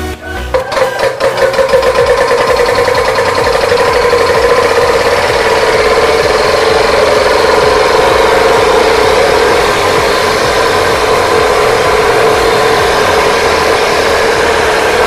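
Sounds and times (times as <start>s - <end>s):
small engine idling: 0.5s - 15.0s.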